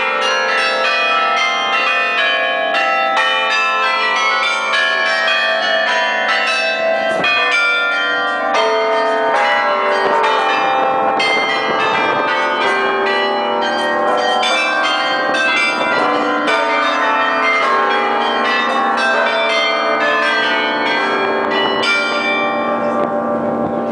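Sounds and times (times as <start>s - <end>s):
carillon bells playing: 0.0s - 23.9s.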